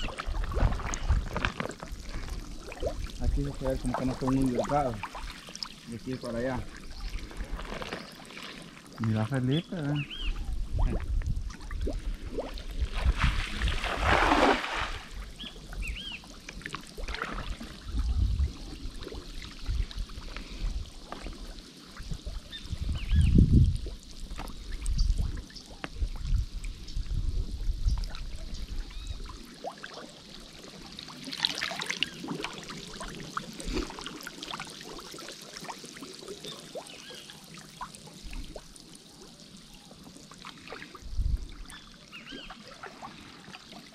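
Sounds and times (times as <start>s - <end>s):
river water trickling and splashing: 0.0s - 43.9s.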